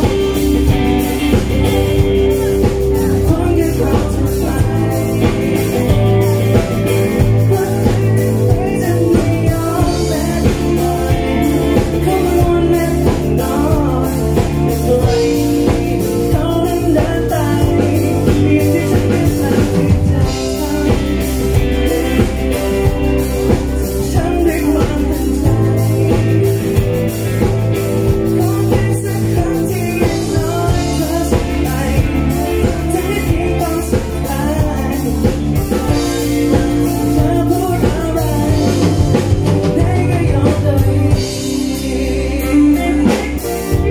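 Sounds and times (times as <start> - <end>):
bass: 0.0 - 43.9
electric guitar: 0.0 - 43.9
keyboard: 0.0 - 43.9
man and woman singing: 0.0 - 43.9
steady drum beat: 0.0 - 43.9.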